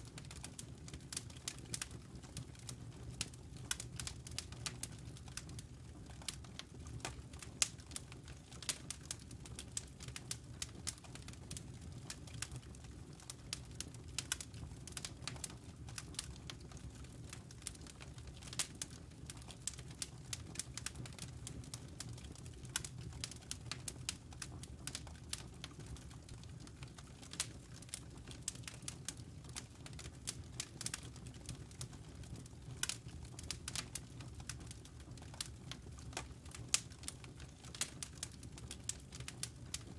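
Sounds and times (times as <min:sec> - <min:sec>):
campfire wood crackling: 0:00.0 - 0:39.9.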